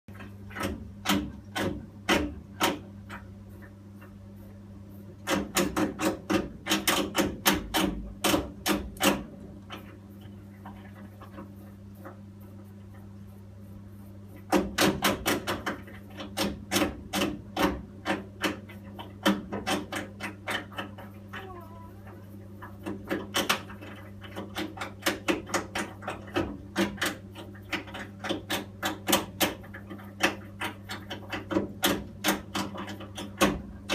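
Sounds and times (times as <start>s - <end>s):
boiler clicking and tapping: 0.1s - 33.9s
steady low hum: 0.1s - 33.9s.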